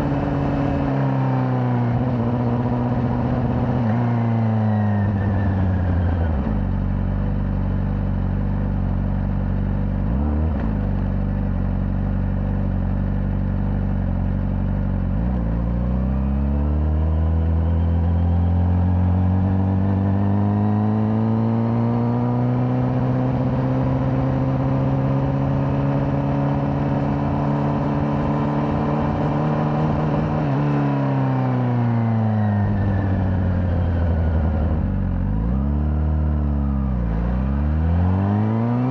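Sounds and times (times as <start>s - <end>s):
motorcycle engine revving: 0.0s - 7.6s, 9.2s - 38.9s.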